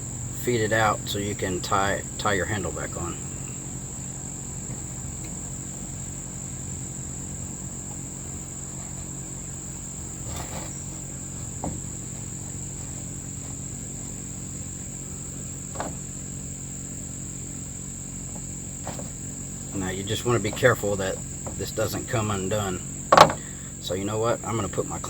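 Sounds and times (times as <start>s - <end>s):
crickets chirring: 0.0s - 25.0s
low steady hum: 0.0s - 25.0s.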